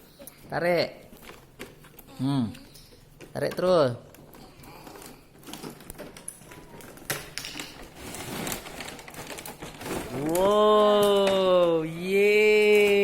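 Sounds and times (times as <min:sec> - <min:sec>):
cardboard and plastic rustling: 0:00.7 - 0:13.0.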